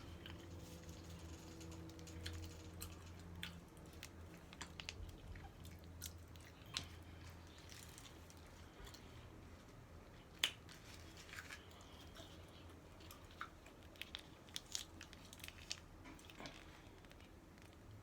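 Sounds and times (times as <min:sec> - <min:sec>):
person chewing food: 0:00.0 - 0:18.0
mouth clicks and crunches: 0:01.1 - 0:09.2, 0:10.2 - 0:18.0.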